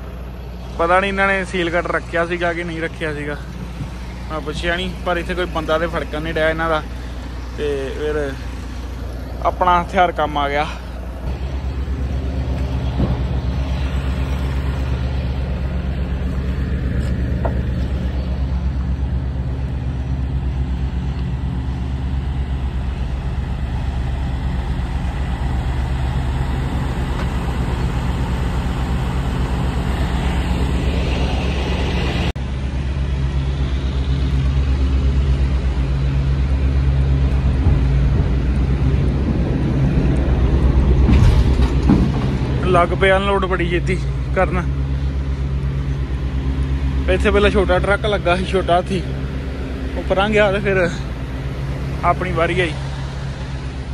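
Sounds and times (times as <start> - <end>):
diesel engine idling: 0.0 - 53.9.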